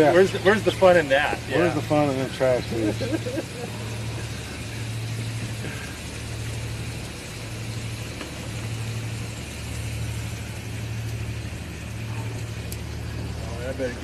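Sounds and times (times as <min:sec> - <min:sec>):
constant hiss: 0:00.0 - 0:14.0
low engine hum: 0:00.0 - 0:14.0.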